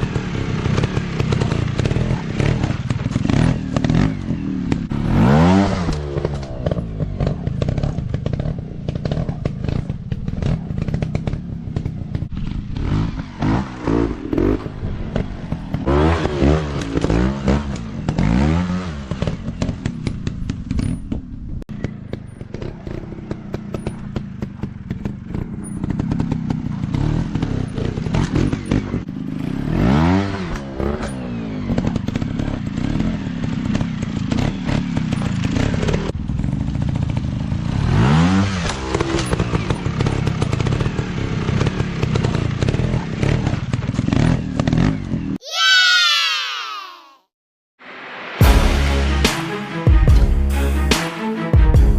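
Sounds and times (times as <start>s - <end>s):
dirt bike engine revving: 0.0s - 21.0s, 21.8s - 45.4s.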